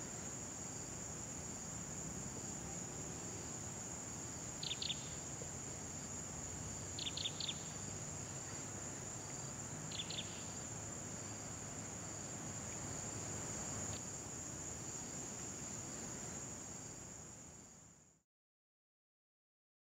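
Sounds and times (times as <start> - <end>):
insect chorus drone: 0.0 - 18.2.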